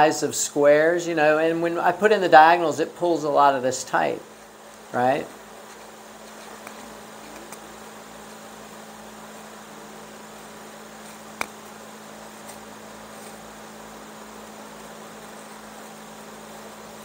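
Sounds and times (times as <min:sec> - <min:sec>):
electrical hum with hiss: 0:00.0 - 0:17.0.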